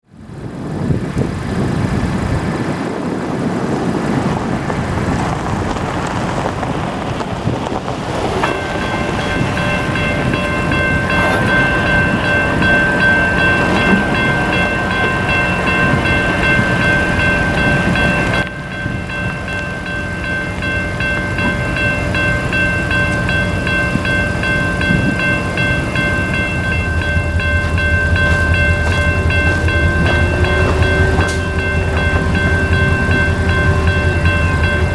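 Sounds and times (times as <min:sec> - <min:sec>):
train rumbling past: 0:00.1 - 0:34.9
crossing warning bell ringing: 0:04.0 - 0:34.9.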